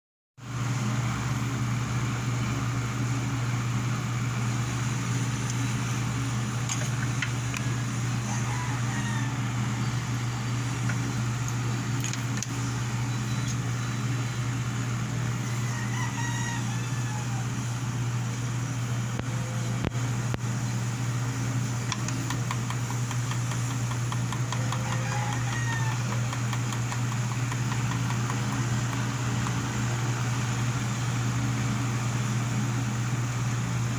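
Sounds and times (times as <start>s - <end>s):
electric fan motor humming: 0.4s - 33.9s.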